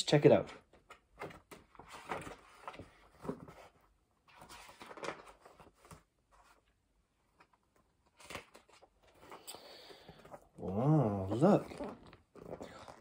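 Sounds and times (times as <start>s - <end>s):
book pages rustling: 0.5s - 13.0s.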